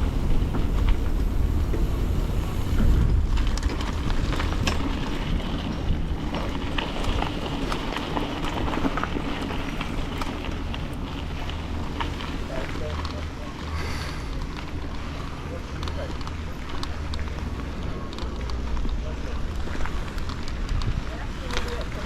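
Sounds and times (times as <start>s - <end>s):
wind buffeting microphone: 0.0s - 22.0s
small clicks and rattles: 2.6s - 22.0s.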